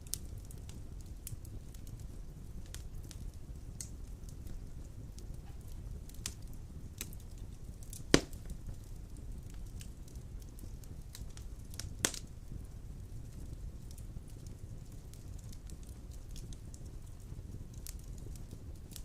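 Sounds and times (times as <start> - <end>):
low rumble of fire flames: 0.0 - 19.0
sharp pops from fire: 0.0 - 19.0
wood fire crackles: 0.0 - 19.0.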